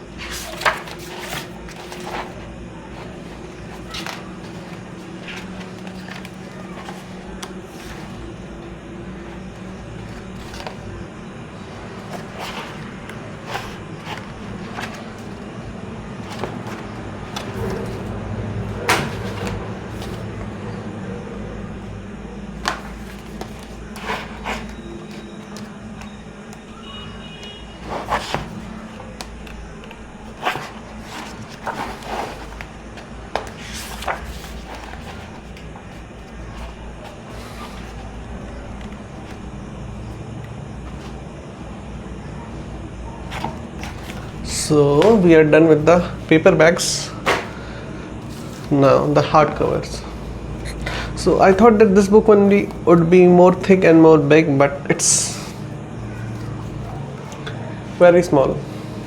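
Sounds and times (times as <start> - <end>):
book pages turning: 0.0 - 53.8, 54.9 - 59.0
steady low hum: 0.0 - 59.0.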